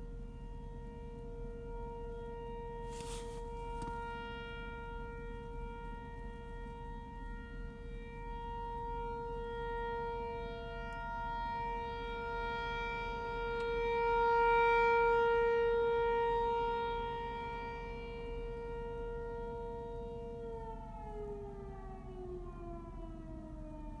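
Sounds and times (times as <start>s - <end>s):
warning siren howling: 0.0s - 24.0s.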